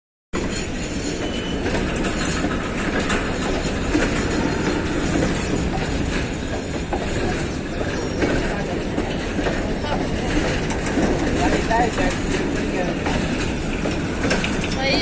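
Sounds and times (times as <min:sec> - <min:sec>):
train rumbling on track: 0:00.4 - 0:15.0
wheels clicking over rail joints: 0:00.4 - 0:15.0.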